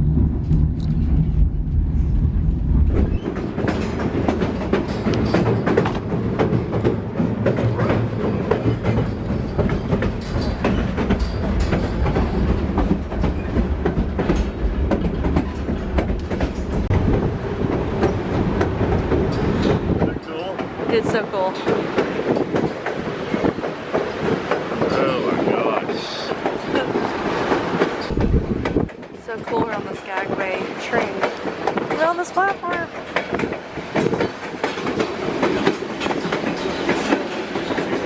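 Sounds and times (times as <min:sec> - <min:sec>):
train cars rattling: 0:00.0 - 0:38.0
train wheels clacking over rail joints: 0:02.8 - 0:38.0.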